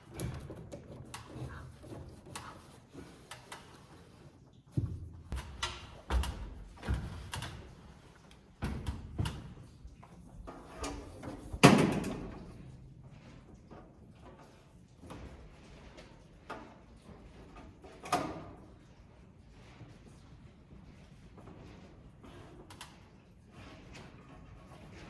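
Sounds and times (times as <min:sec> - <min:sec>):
knocks and thumps of building work: 0:00.0 - 0:25.0.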